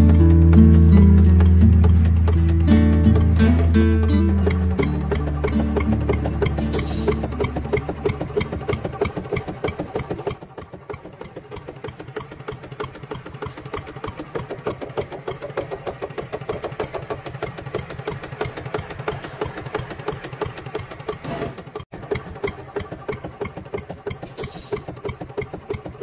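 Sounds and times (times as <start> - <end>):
plow dragging through soil: 0.0 - 26.0
toy tractor motor rattling: 0.0 - 26.0.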